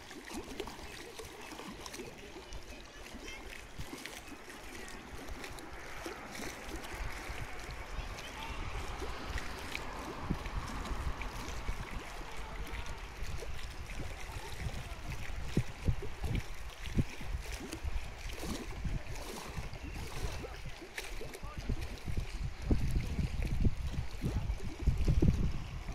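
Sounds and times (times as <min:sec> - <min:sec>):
small waves lapping on concrete: 0:00.0 - 0:25.9
wind buffeting microphone: 0:00.0 - 0:25.9.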